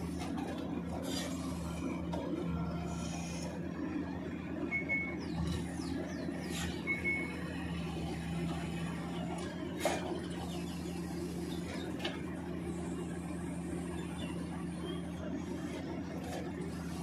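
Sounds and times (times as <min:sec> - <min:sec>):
hydraulic machinery humming: 0:00.0 - 0:17.0.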